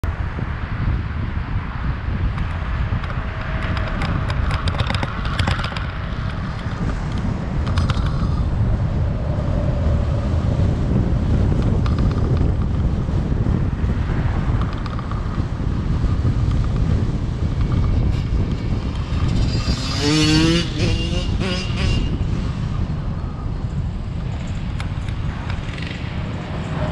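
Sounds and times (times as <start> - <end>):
road and wind noise: 0.0 - 26.9
vehicle driving rumble: 0.0 - 26.9.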